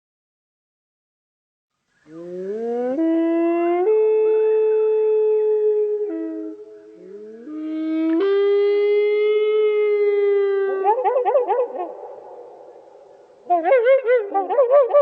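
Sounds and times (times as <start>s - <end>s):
slowed loon wail call: 2.1s - 15.0s.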